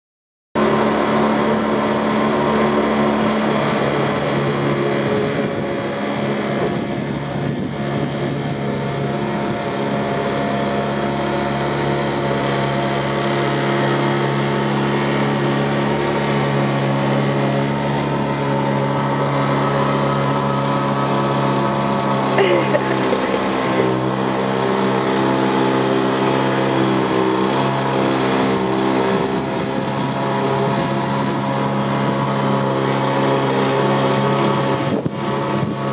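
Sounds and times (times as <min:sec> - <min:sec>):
outboard motor running: 0:00.6 - 0:35.9.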